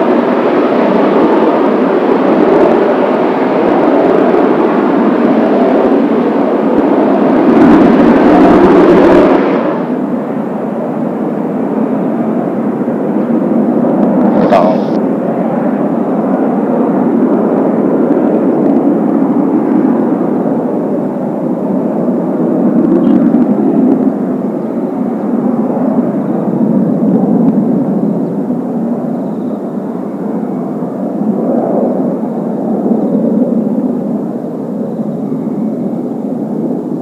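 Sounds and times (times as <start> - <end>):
jet aircraft flying overhead: 0.0 - 37.0.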